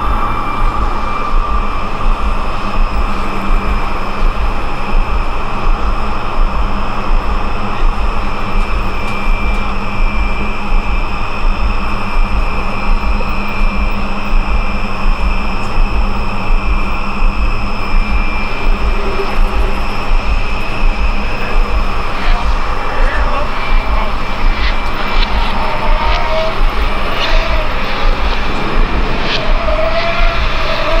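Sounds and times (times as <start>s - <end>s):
droning noise wash: 0.0s - 31.0s
steady high tones: 0.0s - 31.0s
throbbing low rumble: 0.0s - 31.0s.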